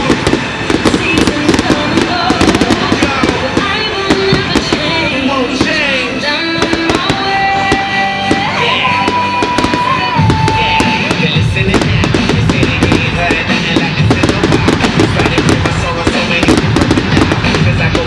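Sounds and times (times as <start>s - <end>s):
fireworks bursting and crackling: 0.0s - 18.0s
loud music with heavy beat: 0.0s - 18.0s.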